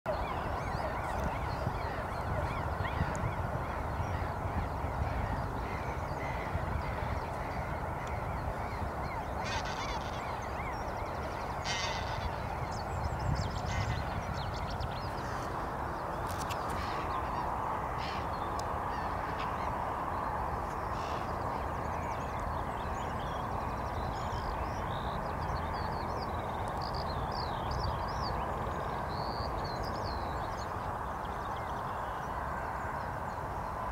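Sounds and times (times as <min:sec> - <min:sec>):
small birds calling: 0:00.1 - 0:32.3.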